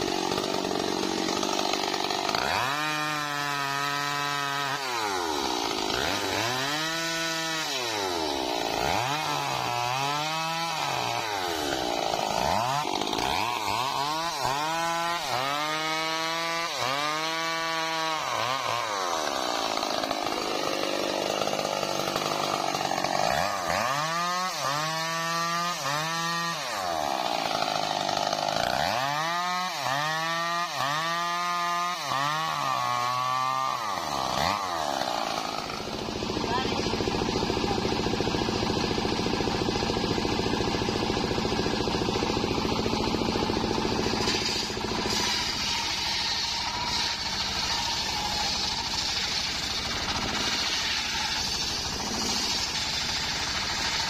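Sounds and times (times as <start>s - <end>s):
chainsaw cutting wood revving: 0.0s - 54.0s.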